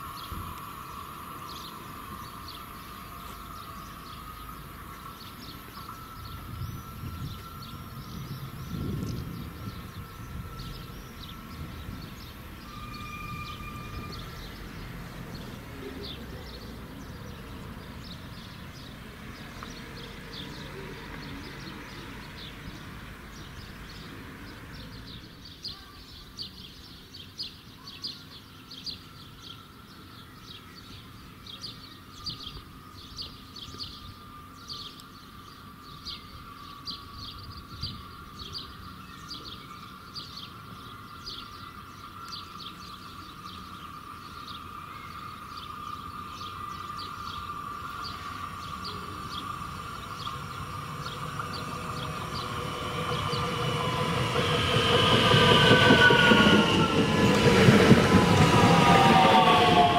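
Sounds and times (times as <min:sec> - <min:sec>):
electric train approaching hum: 0:00.0 - 0:59.9
small birds chirping: 0:00.1 - 0:58.9.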